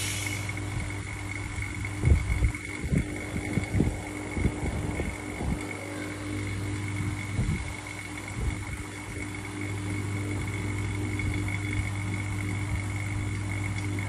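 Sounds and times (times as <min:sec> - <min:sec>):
faint high whine: 0:00.0 - 0:14.0
machine hum: 0:00.0 - 0:14.0.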